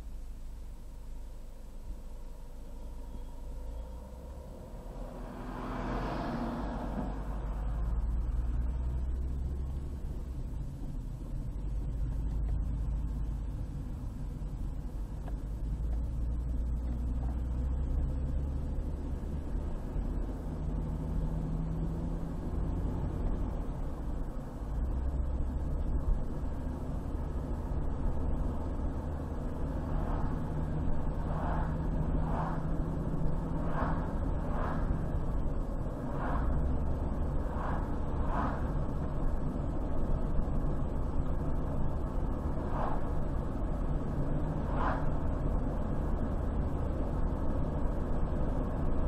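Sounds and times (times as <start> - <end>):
car driving on highway: 0.0 - 49.0.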